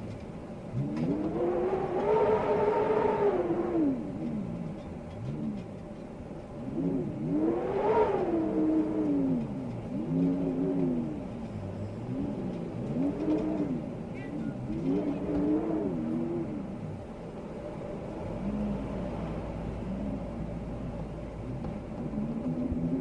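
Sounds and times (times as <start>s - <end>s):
storm wind howling: 0.7s - 5.6s, 6.6s - 23.0s.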